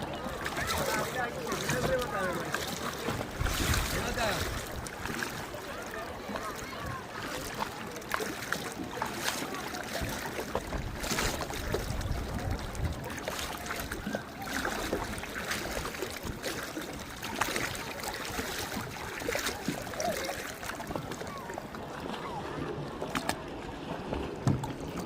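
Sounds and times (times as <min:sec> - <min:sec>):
water lapping against boat hull: 0:00.0 - 0:25.0.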